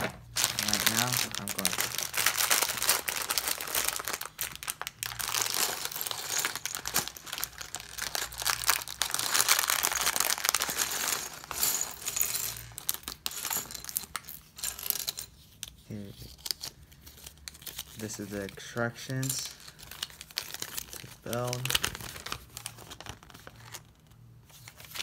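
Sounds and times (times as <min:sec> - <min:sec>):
plastic bags crinkling: 0:00.0 - 0:15.2, 0:16.4 - 0:24.0.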